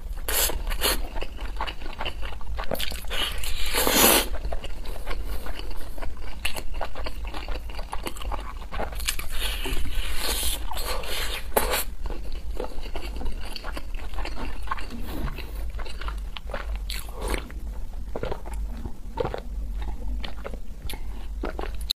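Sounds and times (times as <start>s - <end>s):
chewing and crunching food: 0.0s - 22.0s
steady low hum: 0.0s - 22.0s.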